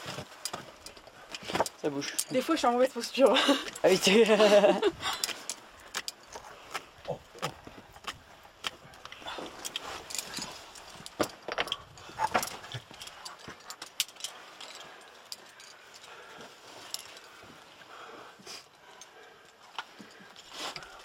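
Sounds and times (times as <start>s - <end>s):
metal climbing gear clinking: 0.0s - 21.0s.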